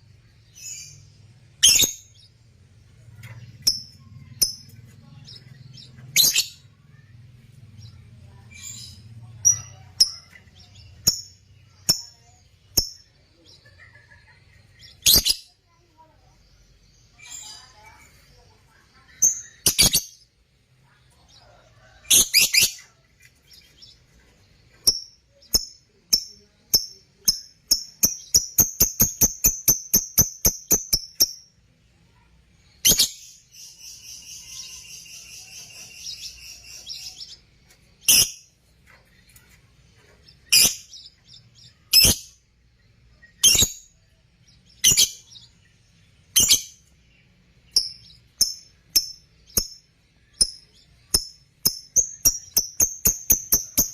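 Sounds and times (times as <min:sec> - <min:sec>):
lovebirds chirping: 0:00.0 - 0:53.9.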